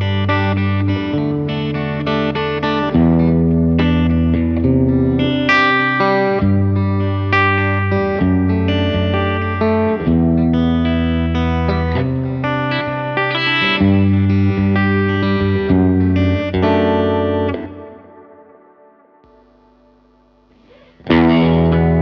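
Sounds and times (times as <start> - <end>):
electric guitar chords: 0.0 - 22.0.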